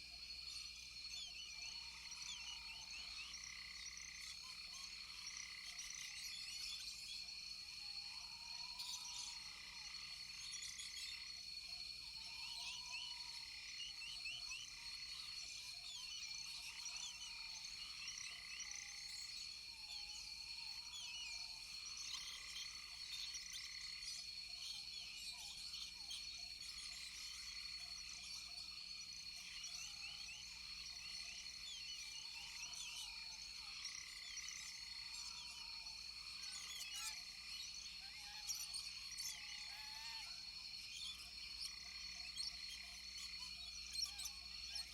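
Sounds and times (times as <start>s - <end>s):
frog chorus: 0.0s - 44.9s
high-pitched insect drone: 0.1s - 44.9s.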